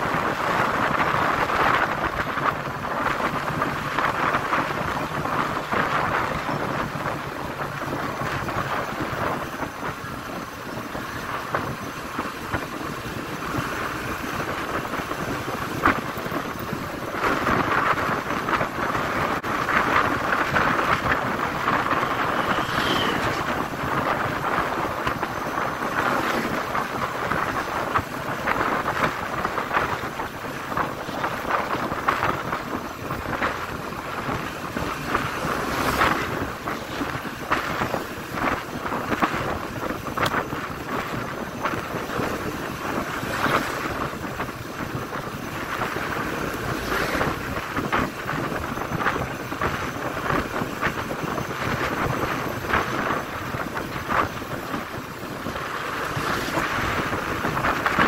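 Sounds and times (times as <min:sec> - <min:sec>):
motorcycle riding noise: 0:00.0 - 0:58.0
wind rushing over microphone: 0:00.0 - 0:58.0.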